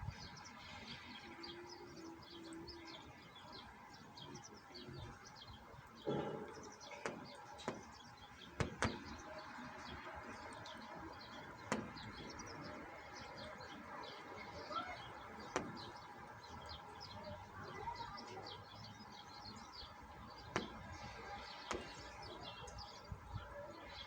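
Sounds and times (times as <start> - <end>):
small birds chirping: 0.0 - 24.0
rain pattering: 1.8 - 24.0.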